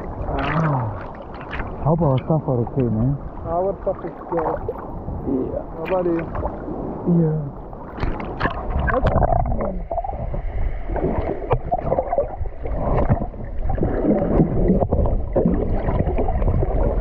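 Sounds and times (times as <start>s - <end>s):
muffled water sloshing and splashing: 0.0s - 17.0s.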